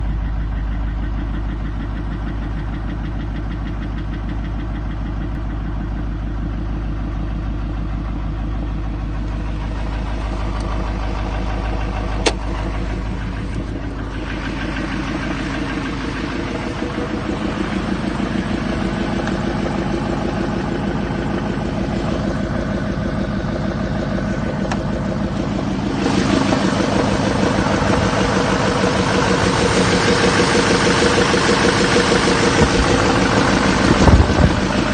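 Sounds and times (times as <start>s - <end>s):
diesel engine idling with knock: 0.0s - 34.9s.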